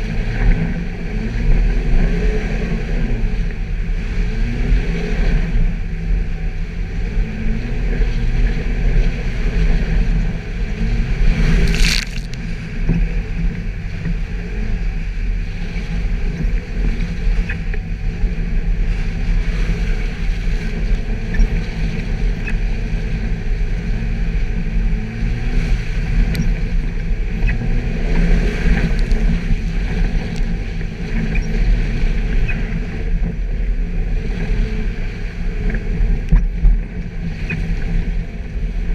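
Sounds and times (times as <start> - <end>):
car engine running at low revs: 0.0 - 38.9.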